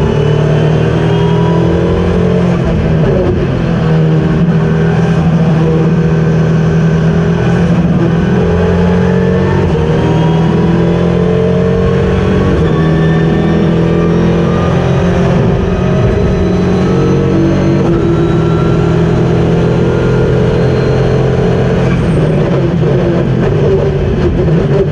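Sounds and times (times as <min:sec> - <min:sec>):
race car engine running hard: 0:00.0 - 0:24.9
road and wind noise: 0:00.0 - 0:24.9.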